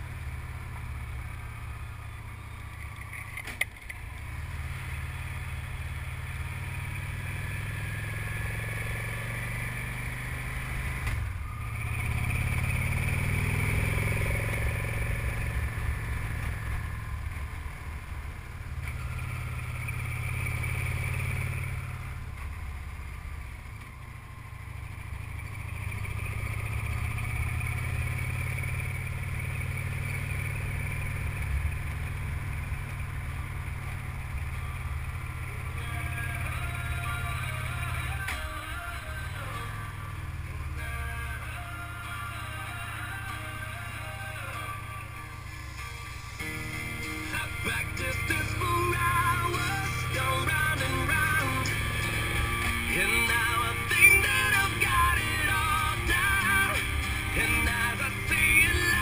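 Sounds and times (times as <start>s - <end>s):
motorcycle engine under load: 0.0s - 59.0s.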